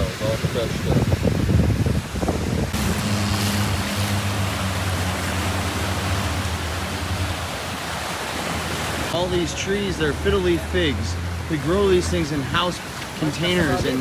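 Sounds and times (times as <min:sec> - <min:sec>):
waves washing on beach: 0:00.0 - 0:14.0
low engine drone: 0:02.6 - 0:14.0.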